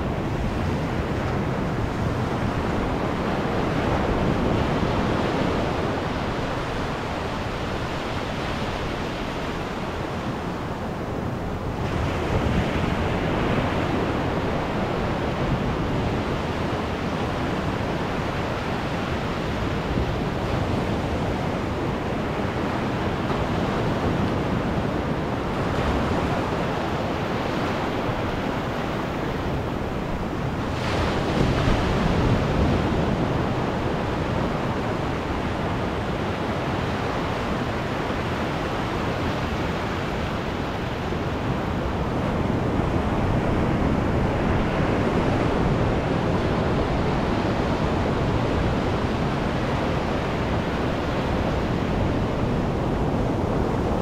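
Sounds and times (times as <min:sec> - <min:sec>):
ocean surf washing over sand: 0:00.0 - 0:54.0.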